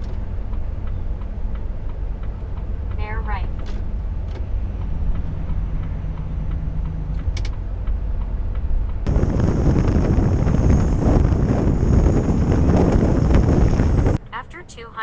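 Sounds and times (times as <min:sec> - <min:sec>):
rush of wind and road noise: 0:00.0 - 0:15.0
truck engine and road drone: 0:00.0 - 0:15.0.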